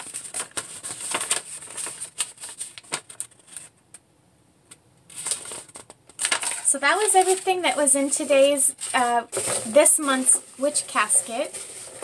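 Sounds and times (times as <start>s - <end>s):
paper rustling and crackling: 0.0s - 3.8s, 5.1s - 12.0s.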